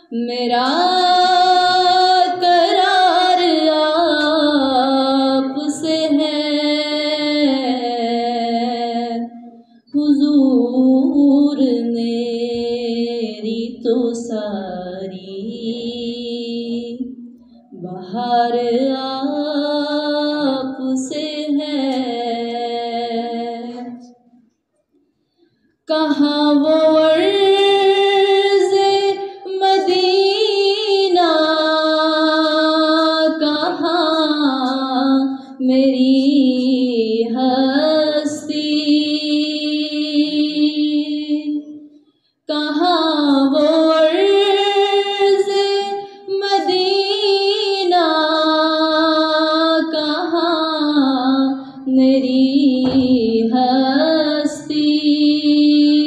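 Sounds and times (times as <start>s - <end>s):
woman singing into a microphone: 0.0s - 24.2s, 25.9s - 41.8s, 42.5s - 56.0s.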